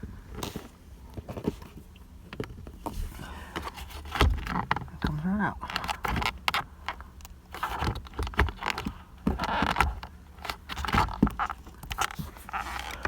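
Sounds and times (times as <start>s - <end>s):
hard plastic scraping and clicking: 0.3s - 13.0s.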